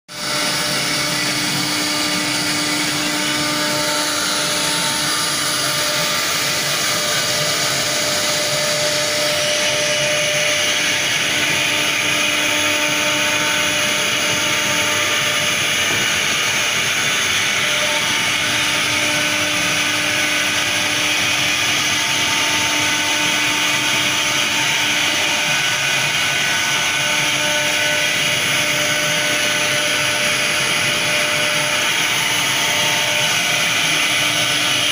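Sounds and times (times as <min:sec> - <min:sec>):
router spindle whine: 0:00.1 - 0:34.9.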